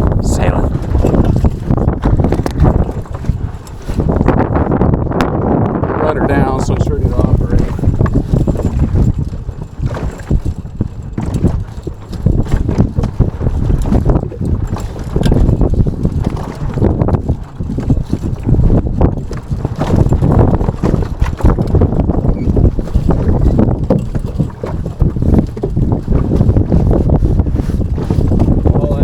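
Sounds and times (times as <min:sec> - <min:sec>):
water against hull: 0:00.0 - 0:29.0
wind buffeting microphone: 0:00.0 - 0:29.0.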